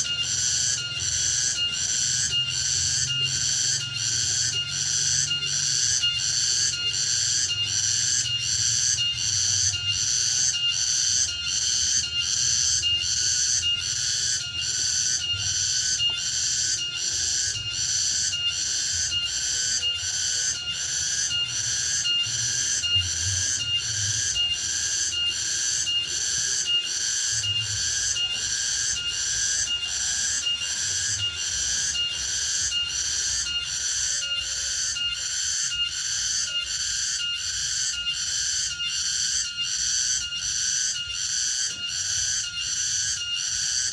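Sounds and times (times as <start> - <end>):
cicada buzzing: 0.0 - 43.9.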